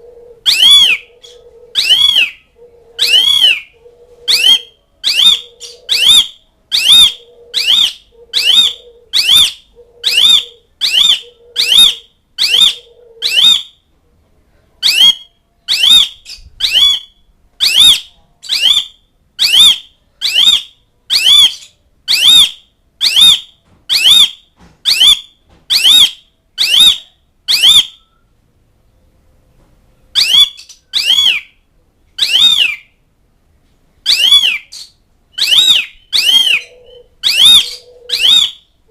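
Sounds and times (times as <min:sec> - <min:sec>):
starling calling: 0:00.0 - 0:13.8, 0:14.8 - 0:28.2, 0:30.1 - 0:31.6, 0:32.2 - 0:33.0, 0:34.0 - 0:38.8.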